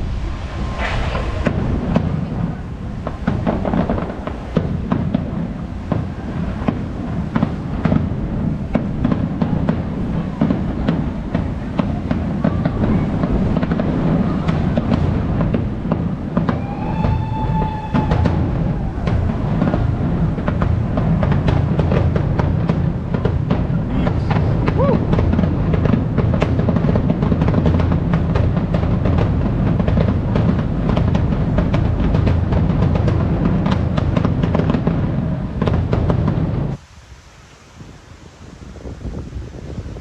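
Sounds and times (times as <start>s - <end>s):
low rumble: 0.0s - 36.8s
fireworks bangs and crackles: 0.0s - 40.0s
fireworks whistling: 0.0s - 40.0s.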